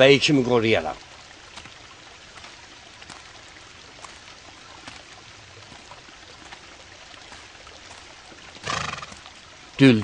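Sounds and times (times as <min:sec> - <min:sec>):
stream water babbling: 0:00.0 - 0:10.0.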